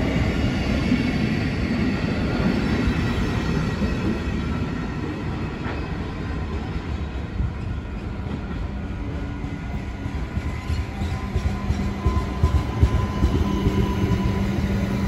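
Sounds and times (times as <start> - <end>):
diesel railcars running: 0.0 - 15.0
freight wagons rumbling on rails: 0.0 - 15.0.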